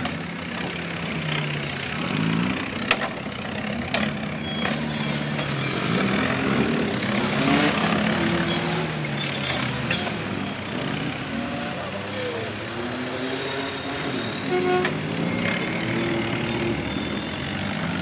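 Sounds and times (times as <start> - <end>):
off-road engine running: 0.0 - 18.0.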